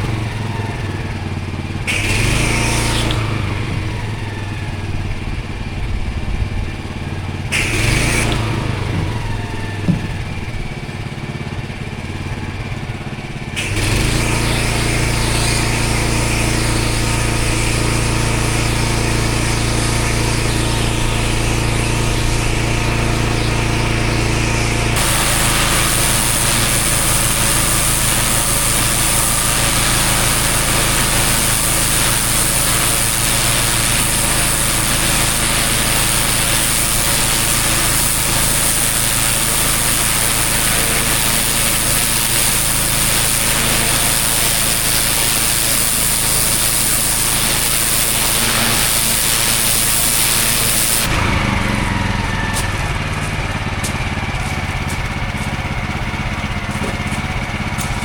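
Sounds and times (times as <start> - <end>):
water jet spraying onto paving: 0.0 - 5.8, 6.6 - 11.1, 11.7 - 58.0
pressure washer engine running: 0.0 - 58.0.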